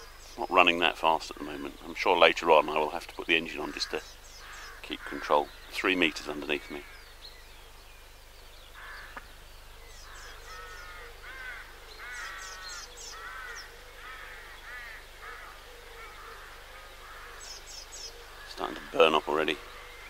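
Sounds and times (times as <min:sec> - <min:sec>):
birds calling repeatedly: 0:00.0 - 0:20.0.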